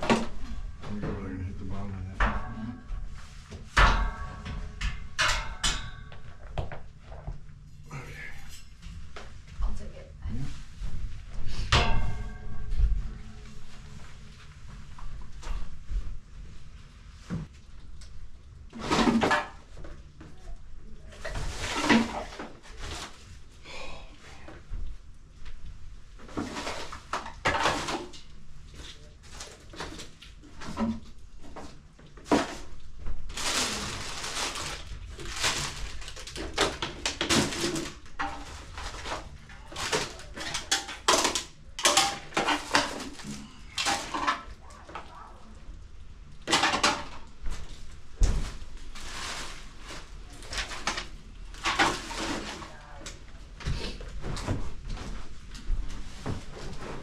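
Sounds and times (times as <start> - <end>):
rustling and scraping of junk: 0.0 - 9.7, 10.3 - 57.0.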